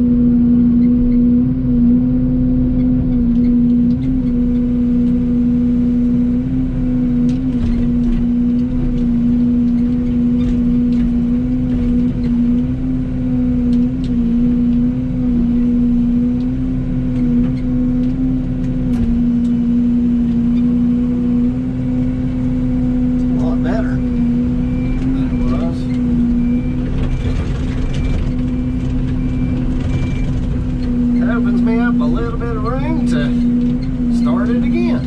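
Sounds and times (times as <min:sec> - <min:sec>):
excavator engine and hydraulics: 0:00.0 - 0:35.0.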